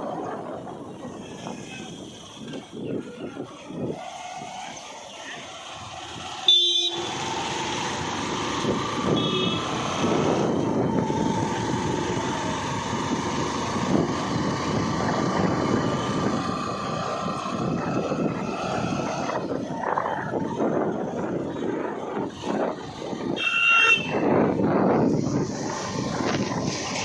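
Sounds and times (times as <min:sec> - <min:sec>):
motor vehicle running: 0:00.0 - 0:27.0
steady rushing noise: 0:00.0 - 0:27.0.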